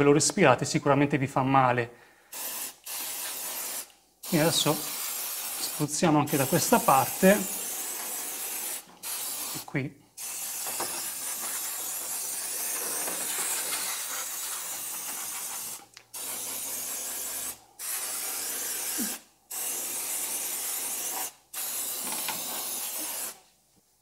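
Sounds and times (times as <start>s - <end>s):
aerosol can spraying: 2.3s - 23.4s.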